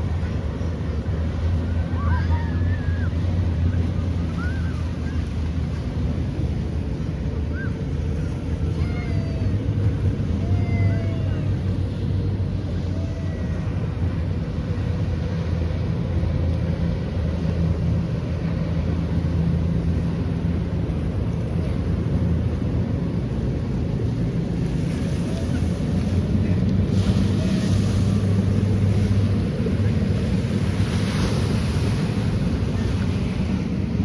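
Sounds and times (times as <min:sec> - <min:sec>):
boat engine humming: 0:00.0 - 0:34.0
water rushing: 0:00.0 - 0:34.0.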